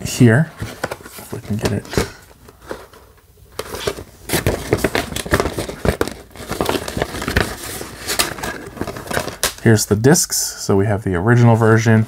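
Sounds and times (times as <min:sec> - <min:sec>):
paper sleeve crinkling and rustling: 0:00.1 - 0:09.8.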